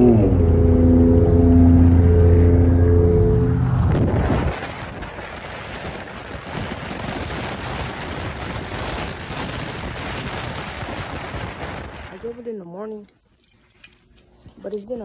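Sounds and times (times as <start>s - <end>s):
wind and road noise: 0.0s - 14.4s.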